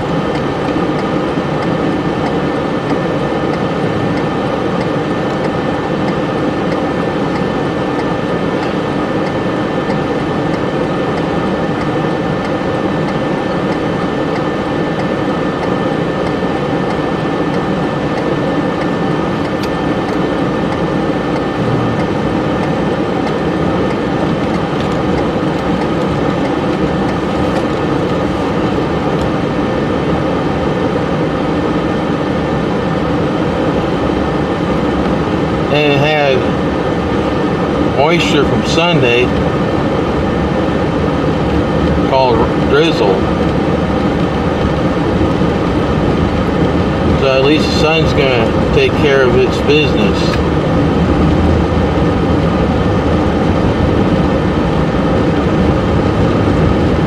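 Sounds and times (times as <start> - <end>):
car engine running: 0.0 - 57.0
heater fan running: 0.0 - 57.0.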